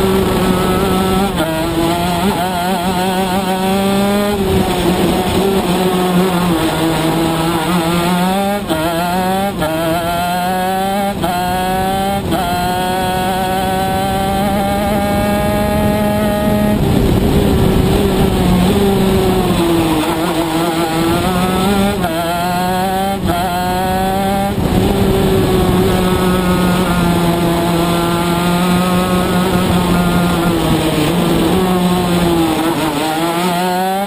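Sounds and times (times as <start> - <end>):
kart engine shifting gears: 0.0 - 34.0.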